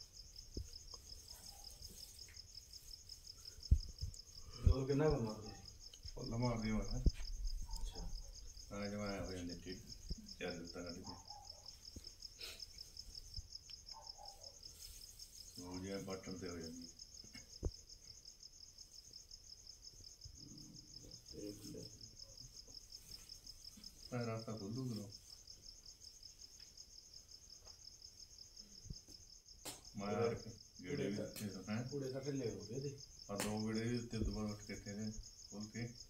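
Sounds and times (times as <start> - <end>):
crickets chirring: 0.0 - 36.0.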